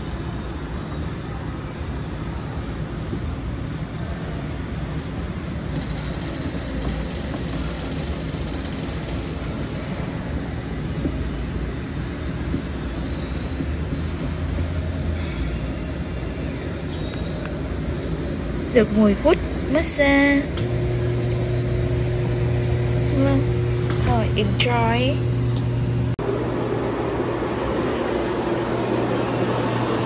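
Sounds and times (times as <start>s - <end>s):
massage chair whirring: 0.0s - 30.0s.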